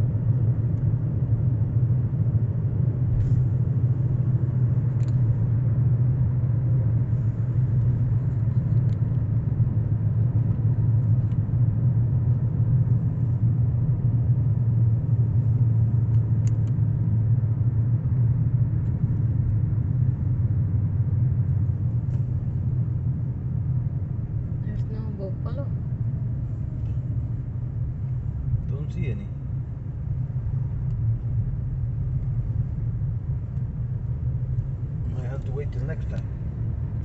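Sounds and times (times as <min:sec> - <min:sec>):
car driving heard from inside: 0:00.0 - 0:37.0.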